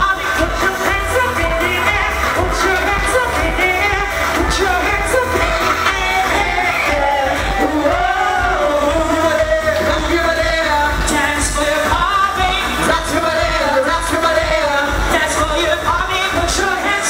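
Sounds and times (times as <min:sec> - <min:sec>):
pop backing track with bass: 0:00.0 - 0:17.0
woman singing into microphone: 0:00.0 - 0:17.0.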